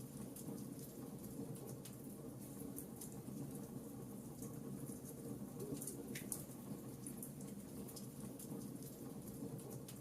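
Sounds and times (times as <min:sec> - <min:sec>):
fire burning in fireplace: 0:00.0 - 0:10.0
fire crackles and pops: 0:00.0 - 0:10.0.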